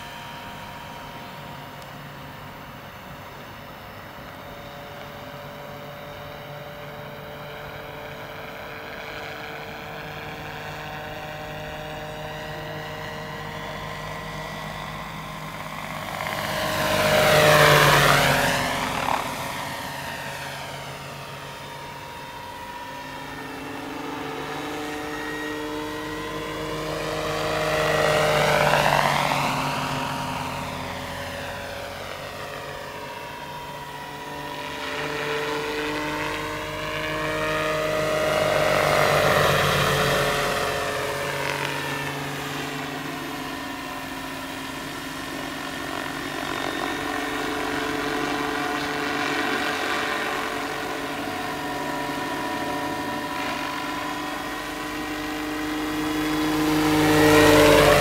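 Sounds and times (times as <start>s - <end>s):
model helicopter whine: 0.0s - 58.0s.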